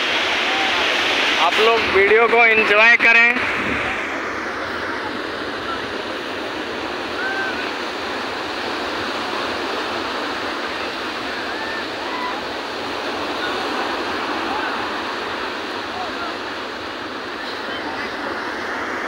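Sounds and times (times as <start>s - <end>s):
surf washing up a beach: 0.0s - 19.0s.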